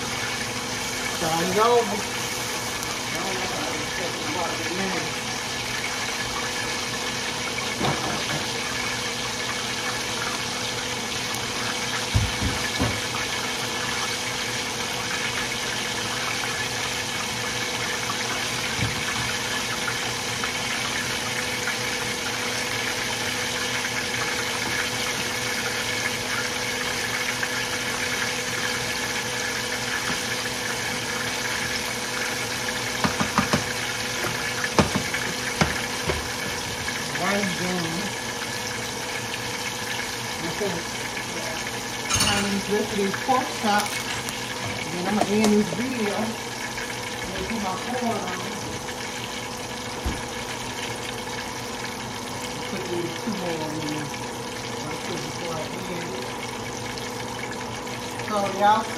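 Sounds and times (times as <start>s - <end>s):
oil sizzling in a frying pan: 0.0s - 58.9s.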